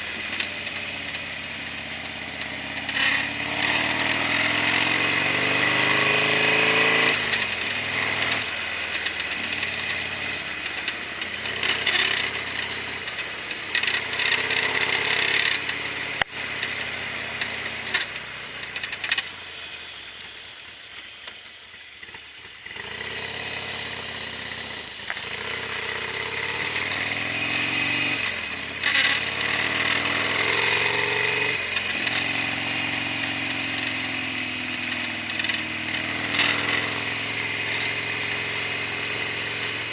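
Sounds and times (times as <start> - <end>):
motorcycle engine accelerating: 0.0 - 20.4, 21.8 - 39.9.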